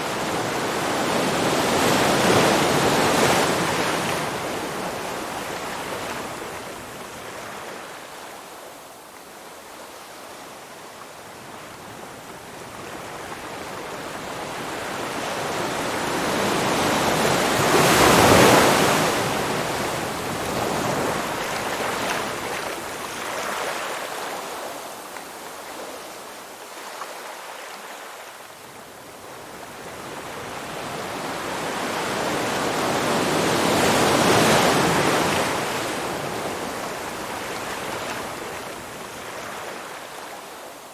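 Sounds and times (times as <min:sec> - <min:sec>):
waves breaking and washing in: 0:00.0 - 0:40.9.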